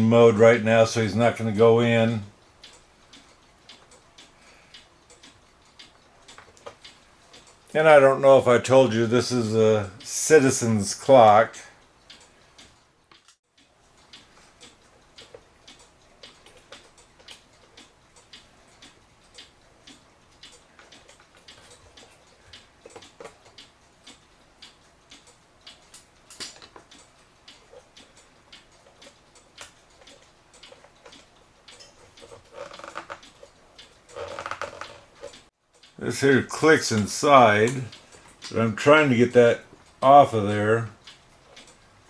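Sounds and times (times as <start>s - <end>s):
clock ticking faintly: 0.0s - 42.0s.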